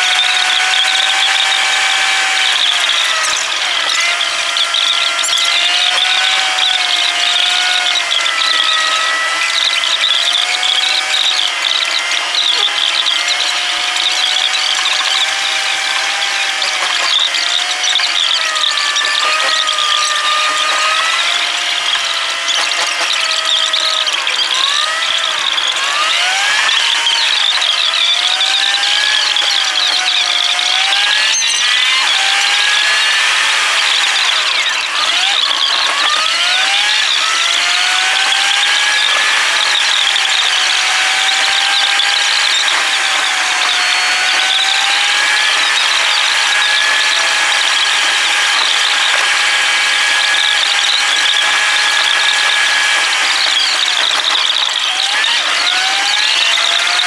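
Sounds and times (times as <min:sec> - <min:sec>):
engine revving: 0:00.0 - 0:57.0
sped up car engine whine: 0:00.0 - 0:57.0.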